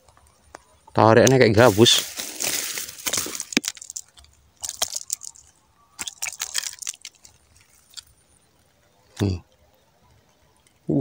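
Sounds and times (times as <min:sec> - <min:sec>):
grass and reeds rustling: 0:00.0 - 0:10.8.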